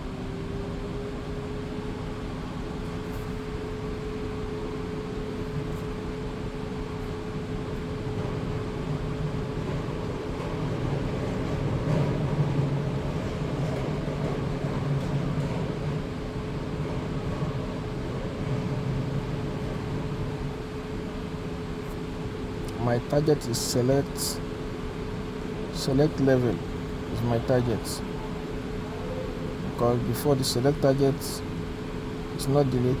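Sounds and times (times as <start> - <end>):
car mechanical hum: 0.0 - 33.0.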